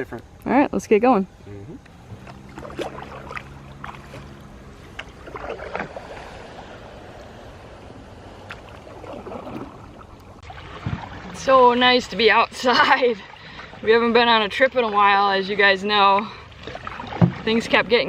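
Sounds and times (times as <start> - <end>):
water washing: 1.8 - 18.0
paddle splashing in water: 1.9 - 18.0.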